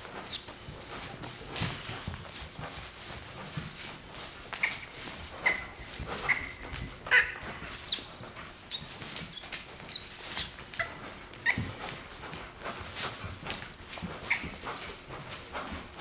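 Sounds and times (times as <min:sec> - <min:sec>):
horse hooves trotting on dirt: 0:00.0 - 0:16.0.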